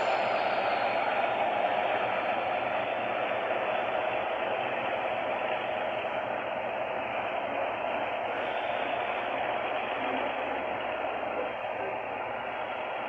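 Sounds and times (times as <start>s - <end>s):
freight train wheels rolling: 0.0s - 13.0s.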